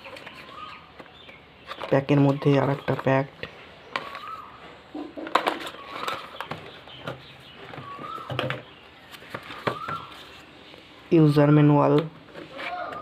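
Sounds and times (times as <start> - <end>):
cardboard and plastic rustling: 0.0 - 10.9, 11.8 - 13.0.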